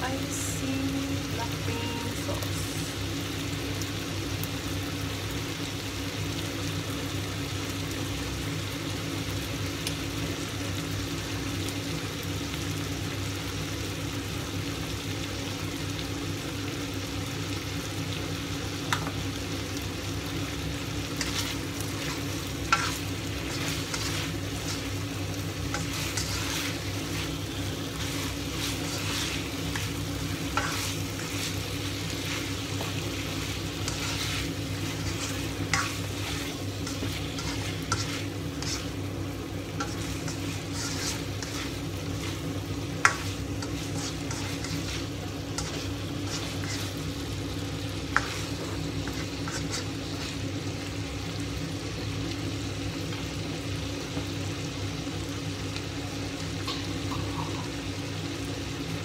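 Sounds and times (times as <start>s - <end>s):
food frying in a wok: 0.0s - 59.0s.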